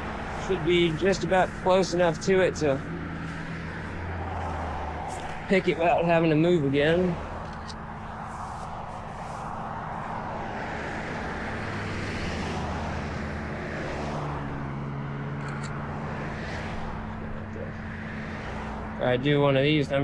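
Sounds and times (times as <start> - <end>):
road traffic passing: 0.0 - 20.0
truck engine idling: 0.0 - 20.0.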